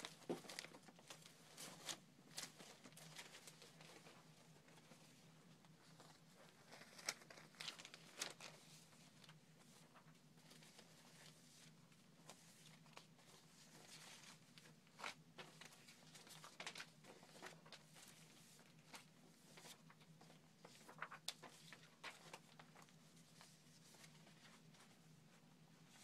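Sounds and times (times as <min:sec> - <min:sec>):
low steady hum: 0:00.0 - 0:26.0
paper rustling and crinkling: 0:00.0 - 0:26.0.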